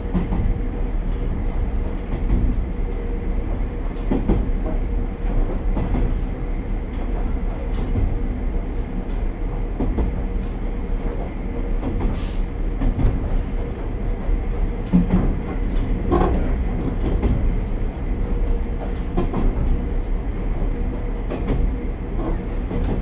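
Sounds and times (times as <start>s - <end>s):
diesel railcar engine drone: 0.0s - 23.0s.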